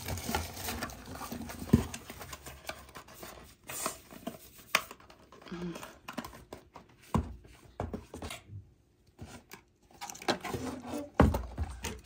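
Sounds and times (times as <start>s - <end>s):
cardboard and plastic packaging rustling: 0.0s - 8.5s, 9.1s - 12.0s.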